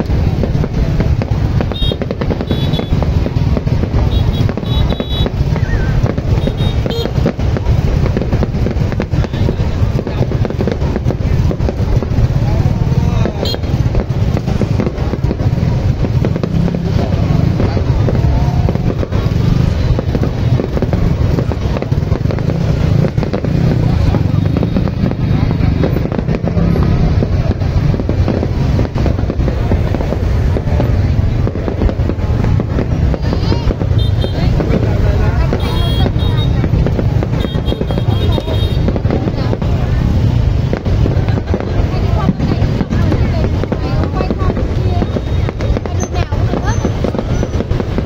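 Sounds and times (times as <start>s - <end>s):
fireworks bangs and crackles: 0.0s - 48.0s
steady low rumble: 0.0s - 48.0s.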